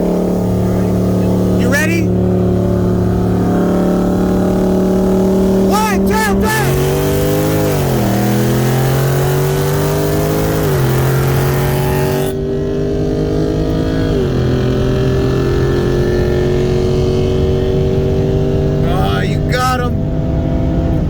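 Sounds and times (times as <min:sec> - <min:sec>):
car engine at full throttle: 0:00.0 - 0:21.0.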